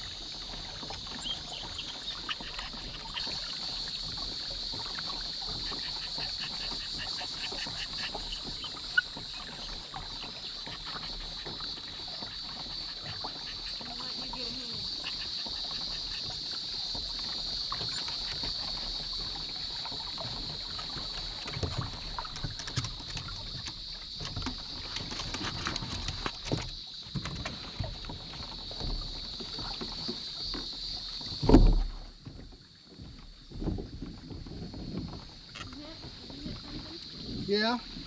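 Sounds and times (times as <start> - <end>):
paddle splashes and drips: 0.0 - 38.0.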